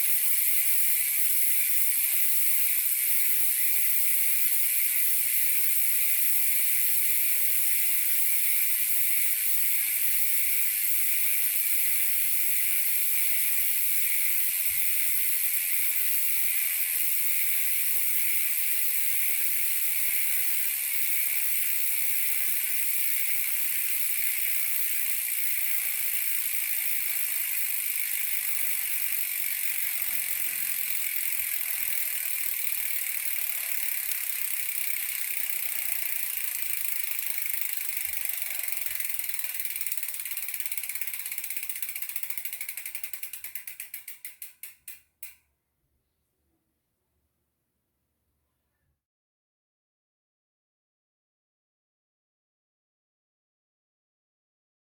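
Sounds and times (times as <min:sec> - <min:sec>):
bicycle hub freewheeling buzz: 0:00.0 - 0:45.4.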